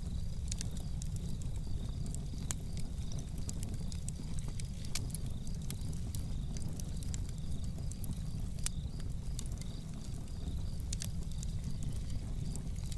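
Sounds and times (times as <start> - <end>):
fire low rumble: 0.0 - 12.9
wood crackling and popping: 0.0 - 12.9.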